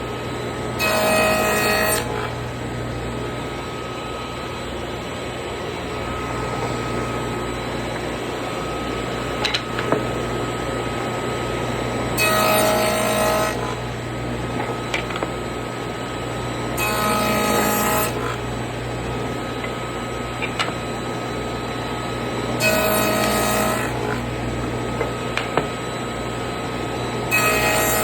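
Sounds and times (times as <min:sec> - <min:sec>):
table saw running: 0:00.0 - 0:28.0.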